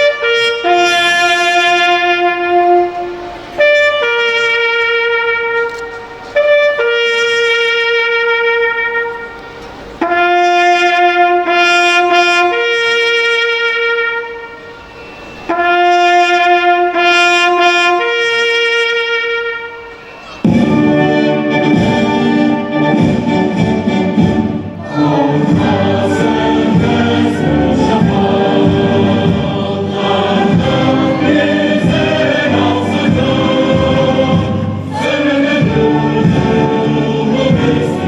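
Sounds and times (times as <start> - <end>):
solo trumpet playing long notes: 0.0 - 36.6.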